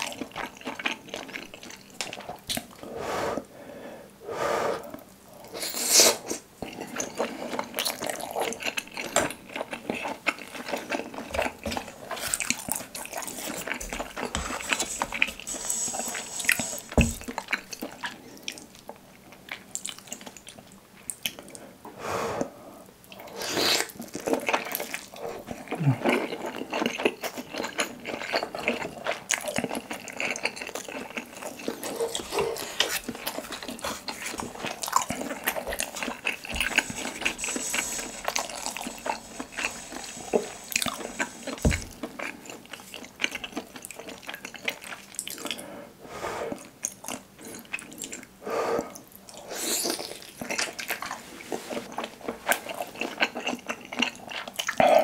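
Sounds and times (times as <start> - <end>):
wet chewing and mouth sounds: 0.0 - 2.8, 4.9 - 21.6, 23.1 - 45.6, 46.5 - 55.0.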